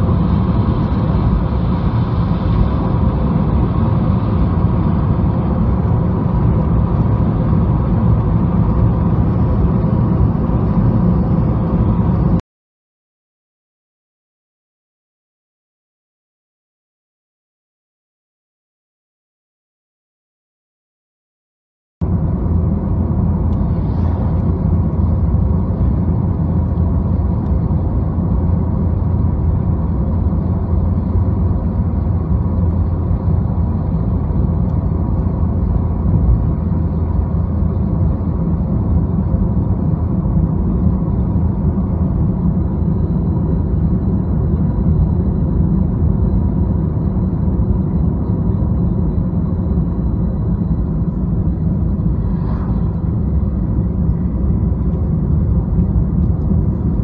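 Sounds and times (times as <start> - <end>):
car road rumble from inside: 0.0 - 12.4, 22.0 - 57.0.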